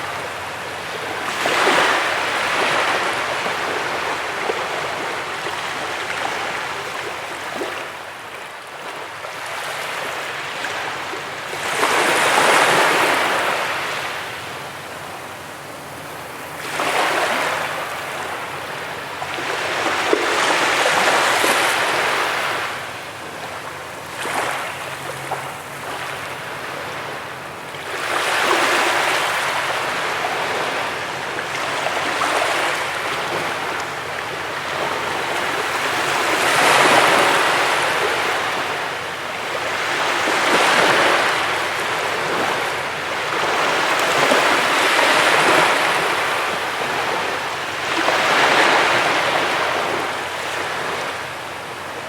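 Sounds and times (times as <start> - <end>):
ocean surf breaking on beach: 0.0 - 52.0.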